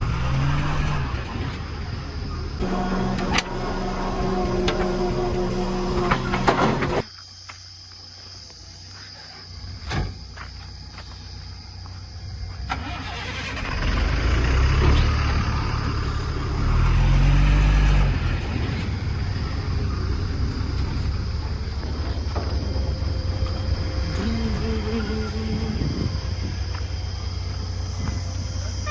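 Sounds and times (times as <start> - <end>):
heavy diesel engine revving: 0.0 - 7.1, 12.7 - 28.9.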